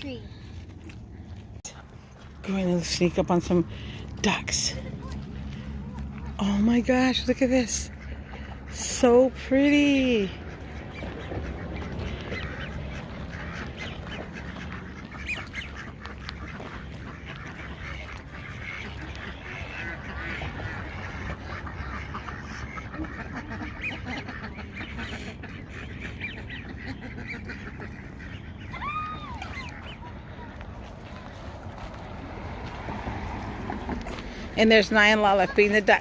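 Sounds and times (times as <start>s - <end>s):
steady low rumble: 0.0s - 36.0s
ducks quacking: 2.4s - 36.0s.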